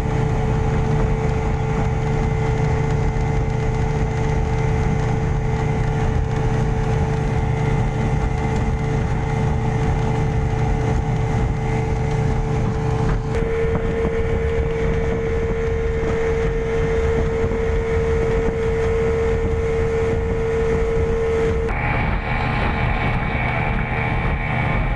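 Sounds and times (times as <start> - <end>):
speedboat engine droning: 0.0 - 24.9.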